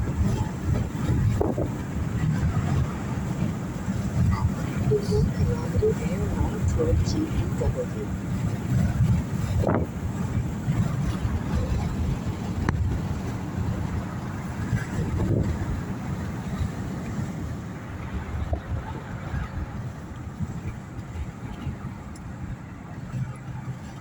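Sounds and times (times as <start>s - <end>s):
car interior road rumble: 0.0s - 24.0s.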